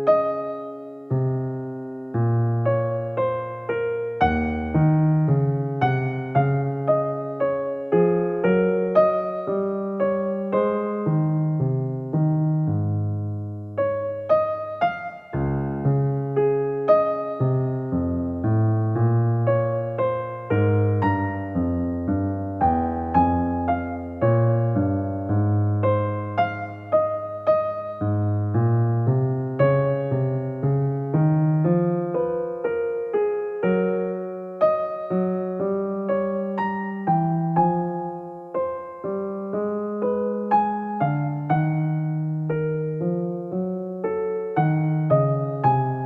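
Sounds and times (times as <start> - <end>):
gentle piano melody: 0.0 - 46.0.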